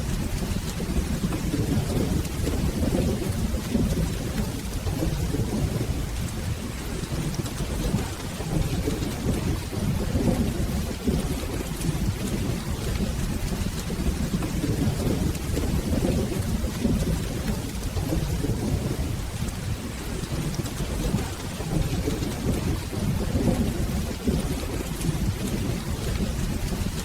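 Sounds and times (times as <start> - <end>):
rolling thunder: 0.0 - 27.0
steady rain: 0.0 - 27.0.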